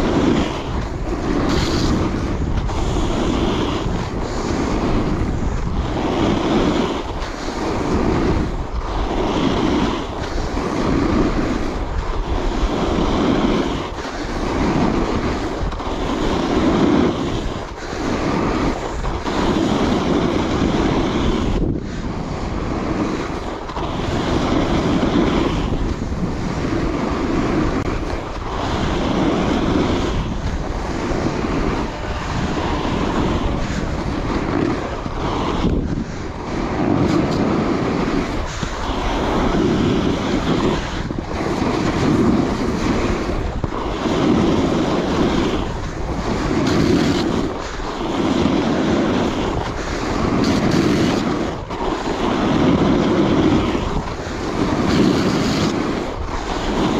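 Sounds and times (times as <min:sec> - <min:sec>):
snowboard edge scraping snow: 0:00.0 - 0:56.9
wind rushing across microphone: 0:00.0 - 0:56.9.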